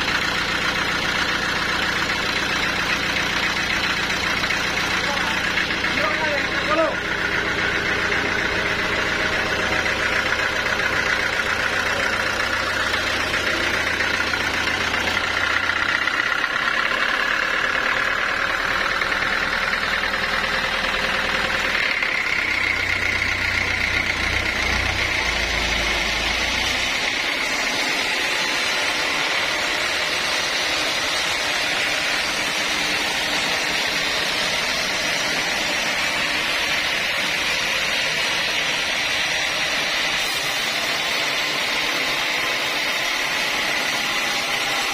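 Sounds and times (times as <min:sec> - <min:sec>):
low engine drone: 0:00.0 - 0:44.9
sawmill machinery humming: 0:00.0 - 0:44.9.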